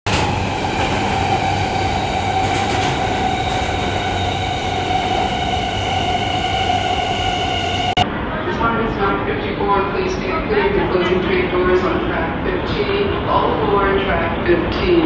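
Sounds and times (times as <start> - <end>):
train rumbling: 0.0 - 14.7.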